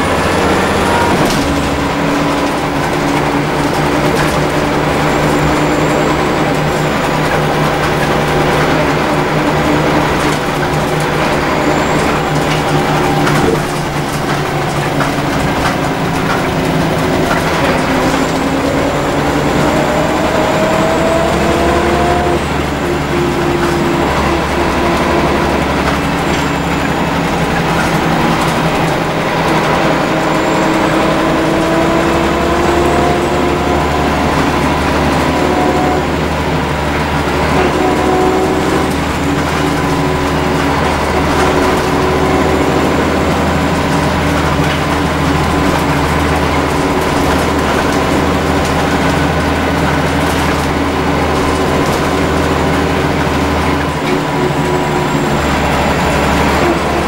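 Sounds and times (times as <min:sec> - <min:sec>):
bus diesel engine drone: 0:00.0 - 0:57.0
road and body noise: 0:00.0 - 0:57.0.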